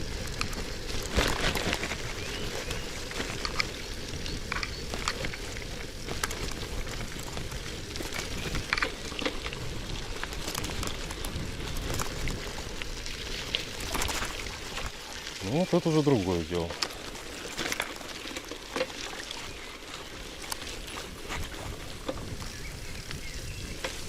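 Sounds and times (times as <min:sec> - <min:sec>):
bicycle tyres rolling through mud: 0:00.0 - 0:24.0.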